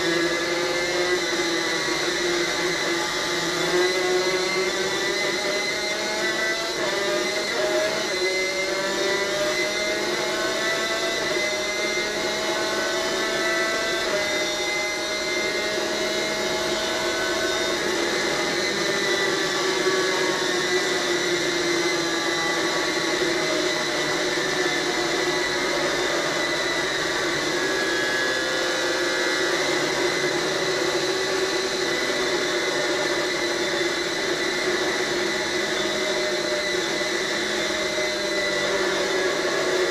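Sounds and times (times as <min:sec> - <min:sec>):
two-stroke racing engine whine: 0:00.0 - 0:39.9.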